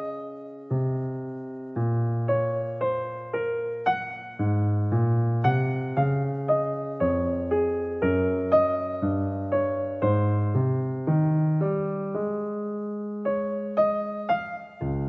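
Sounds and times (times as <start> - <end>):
gentle electric piano music: 0.0 - 15.0.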